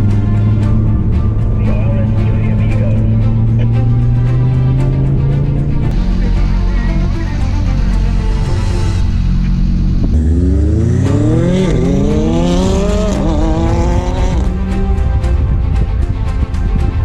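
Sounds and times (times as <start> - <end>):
background music: 0.0 - 17.0
car engine accelerating hard: 0.0 - 17.0.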